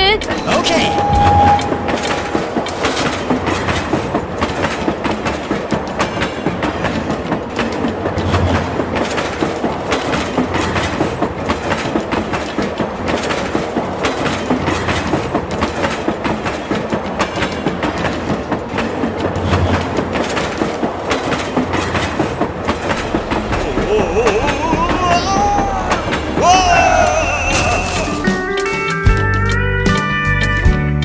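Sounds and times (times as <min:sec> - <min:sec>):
mini train wheels clacking: 0:00.0 - 0:29.6.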